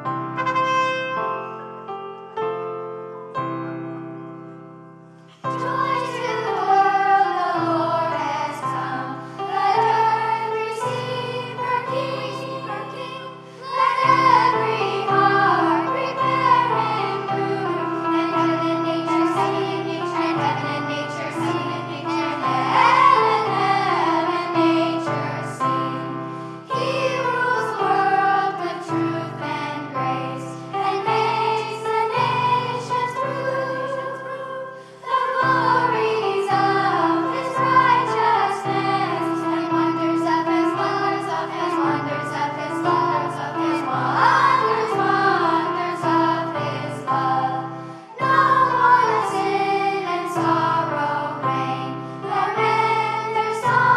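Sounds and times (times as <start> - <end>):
children's choir singing: 5.3 - 53.9.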